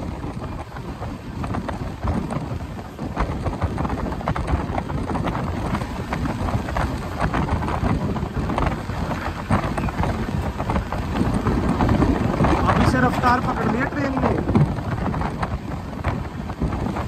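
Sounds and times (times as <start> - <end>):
train rumble from on board: 0.0 - 17.0
wheels clattering over rail joints: 0.0 - 17.0.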